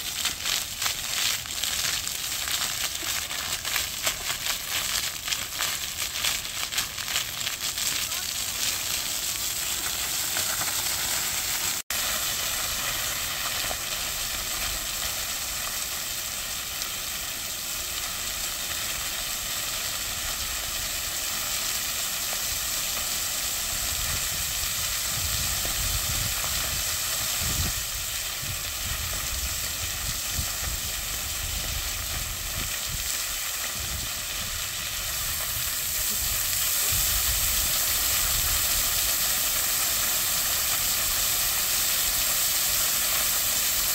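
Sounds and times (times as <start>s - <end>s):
fountain water splashing: 0.0s - 43.9s.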